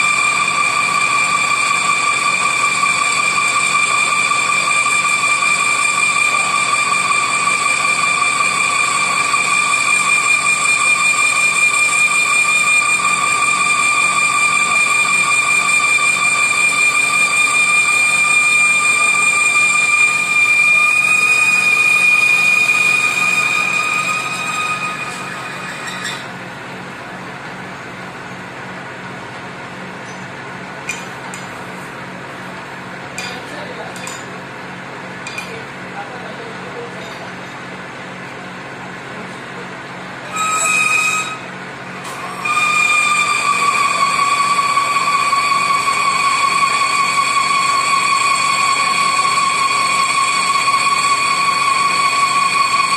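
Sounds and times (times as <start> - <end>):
metal lathe high whine: 0.0 - 52.9.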